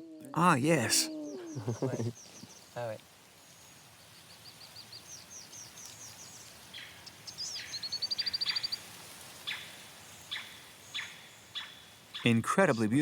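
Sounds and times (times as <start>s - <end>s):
bird chirping: 0.0s - 12.9s
down-slurred whistled calls: 0.8s - 12.4s
rapid bird trill: 1.2s - 12.4s.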